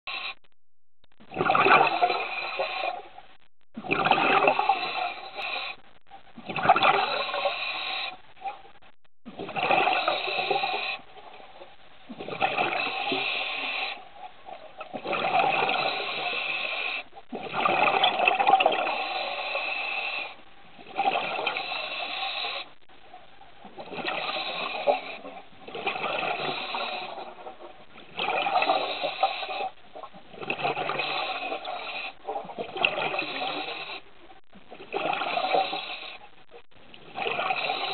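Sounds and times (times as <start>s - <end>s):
underwater exhaled bubbles: 1.2s - 22.8s, 23.5s - 37.9s.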